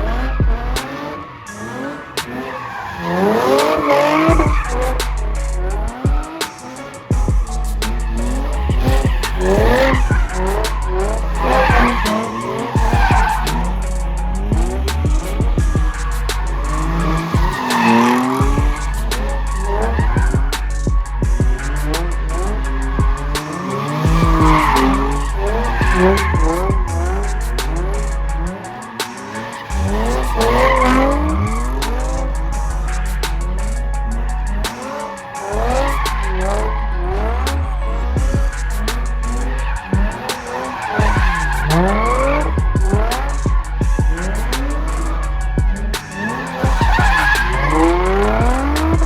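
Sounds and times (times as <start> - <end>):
deep bass hum: 0.0 - 0.8, 4.2 - 6.3, 7.1 - 17.6, 18.4 - 28.6, 29.7 - 34.7, 35.6 - 40.2, 41.0 - 46.0, 46.7 - 49.0
car engine revving: 0.0 - 49.0
tyres squealing: 0.0 - 49.0.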